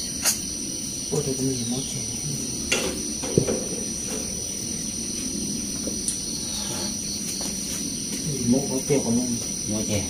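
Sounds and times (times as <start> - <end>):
insects shrilling: 0.0 - 10.0.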